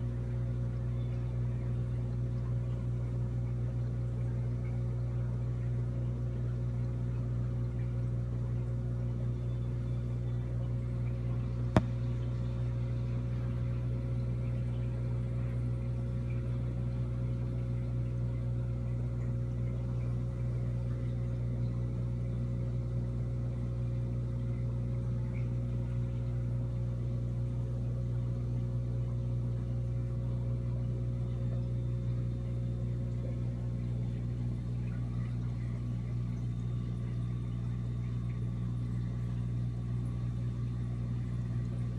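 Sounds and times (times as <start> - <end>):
air pump humming: 0.0 - 41.9.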